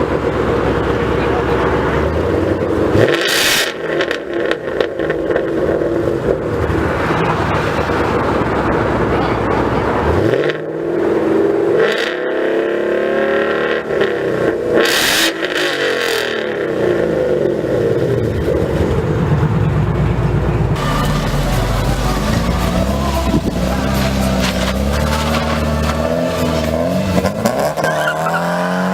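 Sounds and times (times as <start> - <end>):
sports car engine revving: 0.0 - 28.9.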